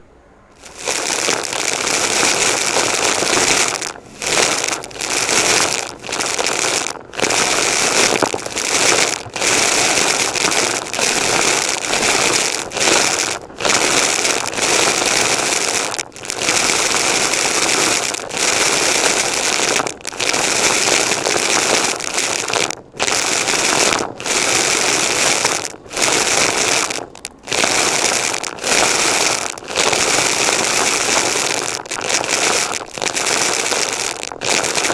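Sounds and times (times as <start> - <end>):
vacuum cleaner sucking up debris: 0.6 - 34.9.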